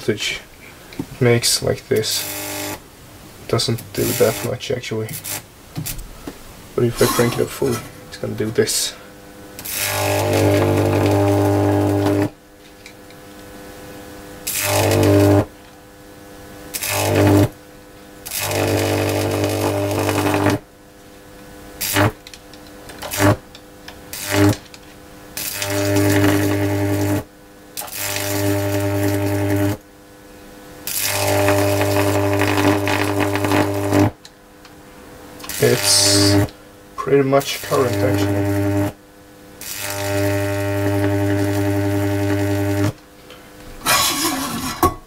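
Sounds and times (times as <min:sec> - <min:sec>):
electric arc buzzing and crackling: 0:01.1 - 0:45.0.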